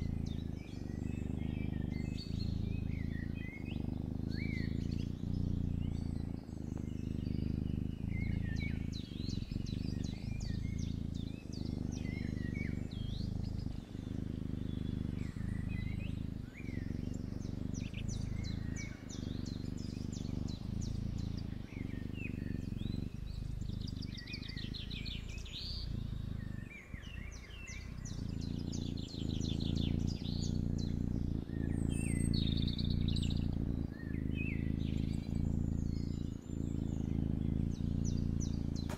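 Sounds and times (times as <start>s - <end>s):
kitten purring: 0.0s - 38.9s
small birds chirping: 0.0s - 38.9s.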